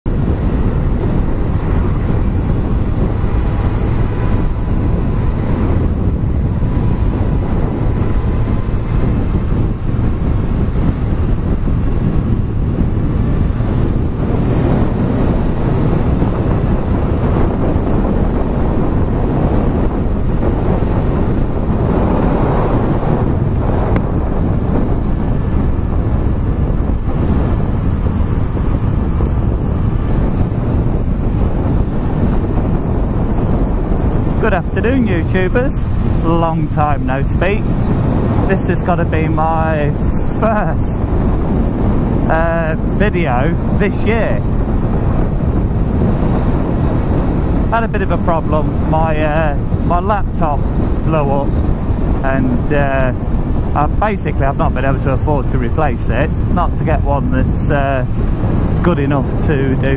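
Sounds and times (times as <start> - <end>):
motorcycle engine running: 0.0 - 54.0
wind buffeting microphone: 0.0 - 59.9.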